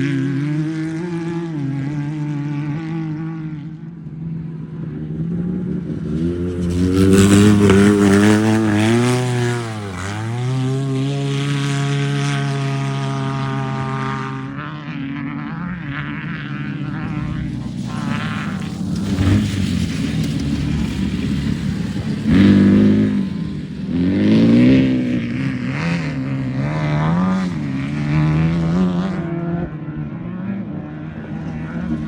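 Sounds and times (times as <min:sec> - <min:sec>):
race vehicle engine passing: 0:00.0 - 0:32.0.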